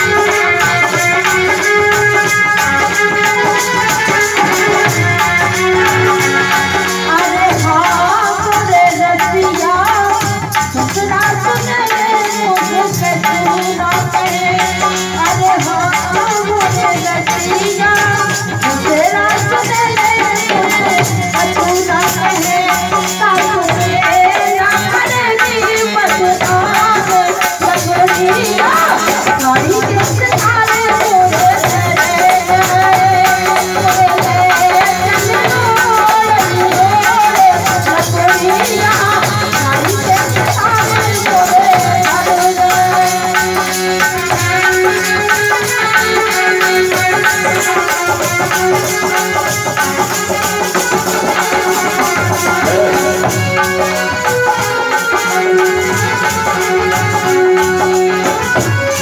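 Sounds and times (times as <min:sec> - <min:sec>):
harmonium: 0:00.0 - 0:59.0
rattling percussion beat: 0:00.0 - 0:59.0
woman singing: 0:00.0 - 0:59.0.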